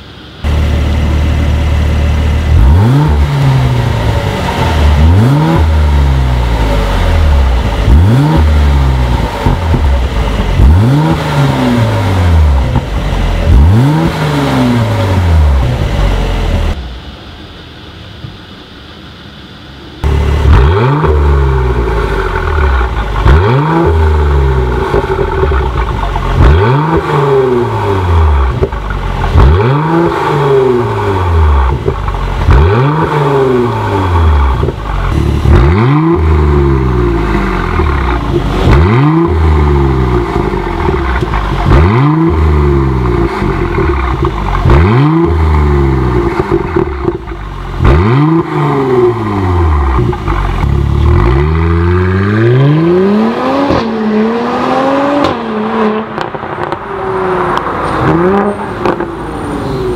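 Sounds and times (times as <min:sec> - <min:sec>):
car engine revving: 0:00.0 - 0:18.6, 0:19.6 - 0:59.9.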